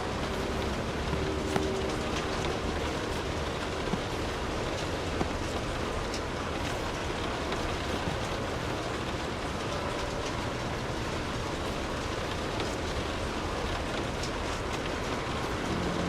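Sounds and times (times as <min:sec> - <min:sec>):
separate raindrops: 0:00.0 - 0:16.0
steady rainfall: 0:00.0 - 0:16.0.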